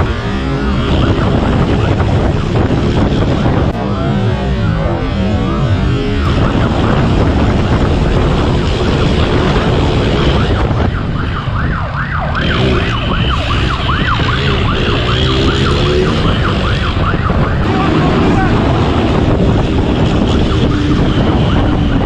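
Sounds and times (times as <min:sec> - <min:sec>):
motorcycle engine: 0:00.0 - 0:22.0
police siren yelping: 0:00.0 - 0:22.0
wind noise: 0:00.0 - 0:22.0.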